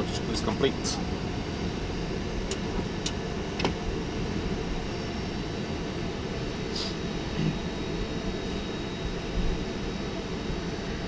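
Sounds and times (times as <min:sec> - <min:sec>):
aircraft cockpit rumble and hiss: 0:00.0 - 0:11.0.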